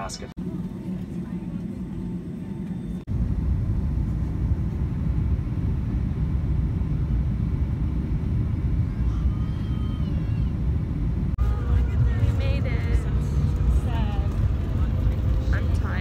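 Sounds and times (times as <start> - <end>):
jet airliner cabin rumble: 0.0 - 16.0.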